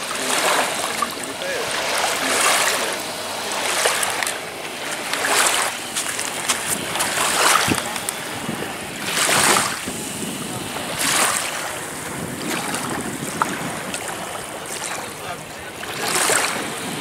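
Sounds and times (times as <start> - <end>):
small waves washing on beach: 0.0 - 17.0.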